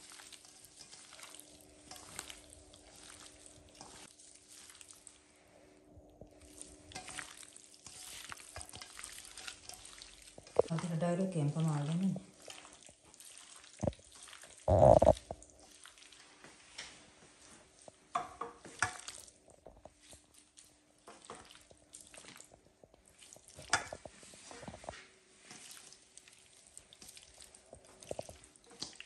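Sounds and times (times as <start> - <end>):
wet squelching of fruit: 0.0 - 5.4, 6.3 - 17.9, 18.6 - 29.0.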